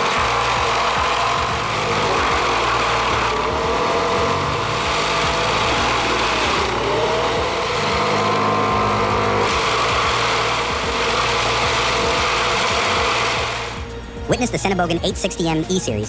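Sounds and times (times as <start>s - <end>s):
wood chipper engine running: 0.0s - 15.9s.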